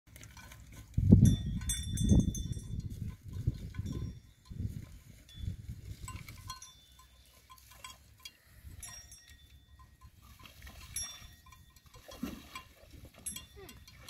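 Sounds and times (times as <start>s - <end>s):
neck bells clinking: 0.1s - 14.0s.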